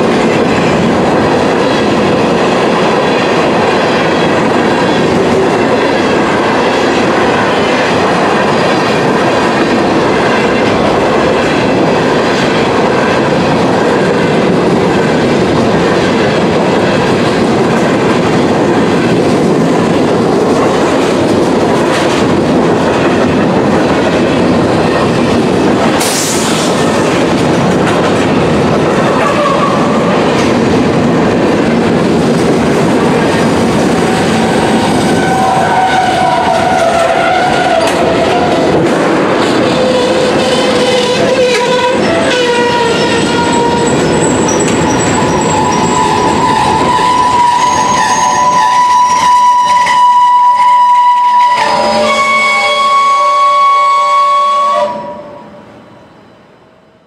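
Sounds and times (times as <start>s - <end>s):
freight train wheels clacking: 0.0s - 55.4s.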